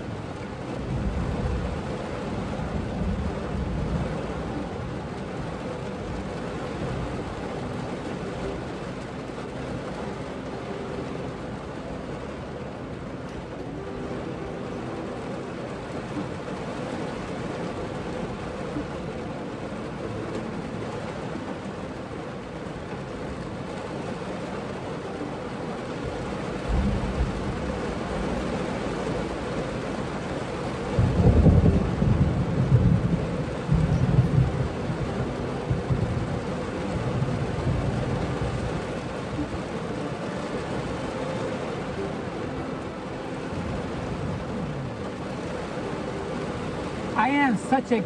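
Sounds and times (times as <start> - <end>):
heavy rain on car roof: 0.0 - 48.0
thunder rumbling: 0.0 - 48.0.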